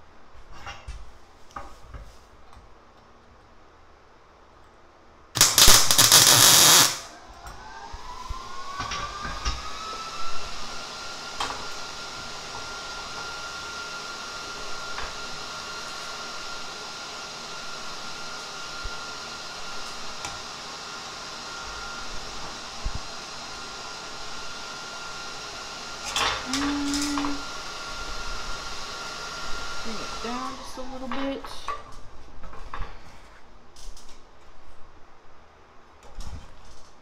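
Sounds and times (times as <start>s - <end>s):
mechanical hum with high whine: 0.0s - 37.0s.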